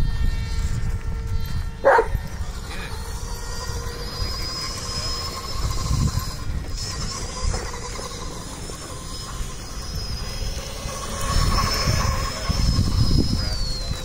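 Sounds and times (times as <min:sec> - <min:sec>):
electric motor whining: 0:00.0 - 0:14.0
low rumbling noise: 0:00.0 - 0:14.0.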